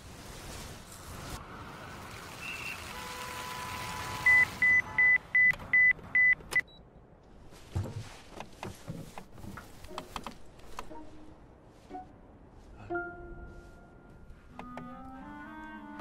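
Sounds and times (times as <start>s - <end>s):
city street traffic hum: 0.0s - 16.0s.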